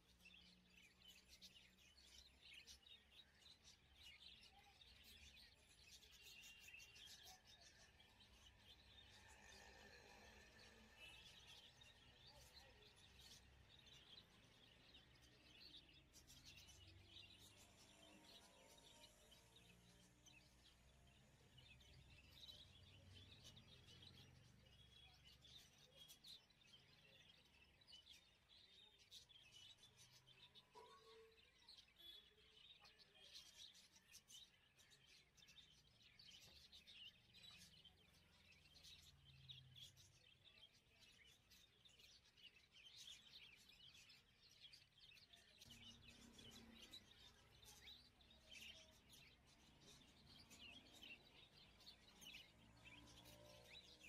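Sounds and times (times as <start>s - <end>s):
faint bird chirps: 0.0s - 54.0s.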